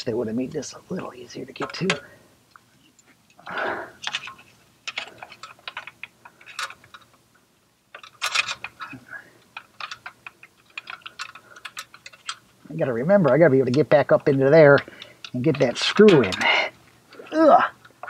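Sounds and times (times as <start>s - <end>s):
parts scraping: 0.0s - 7.2s, 7.9s - 18.0s
small parts clicking and rattling: 0.9s - 18.0s.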